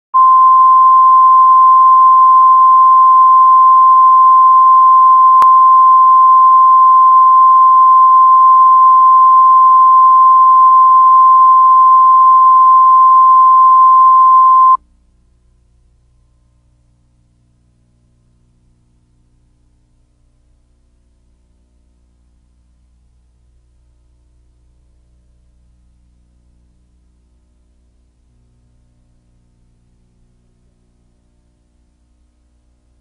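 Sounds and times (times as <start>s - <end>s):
faint low hum: 0.2s - 33.0s.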